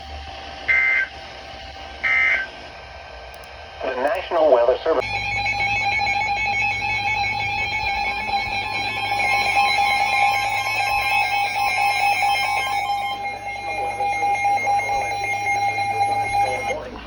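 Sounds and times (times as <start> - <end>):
two-tone alert alarm: 0.0 - 2.7, 5.0 - 17.0.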